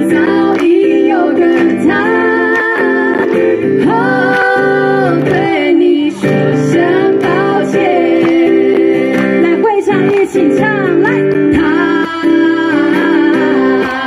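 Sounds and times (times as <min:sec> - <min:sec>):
women singing: 0:00.0 - 0:14.0.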